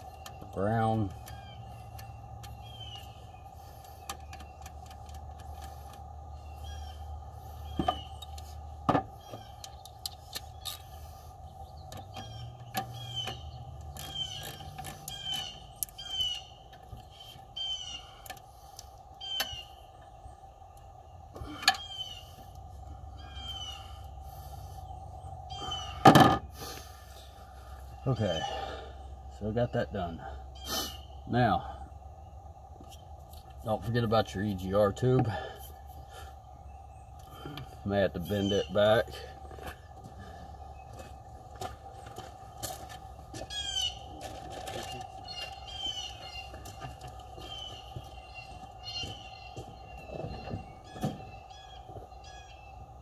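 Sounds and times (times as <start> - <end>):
bird chirping: 0.0 - 53.0
steady hum: 0.0 - 53.0.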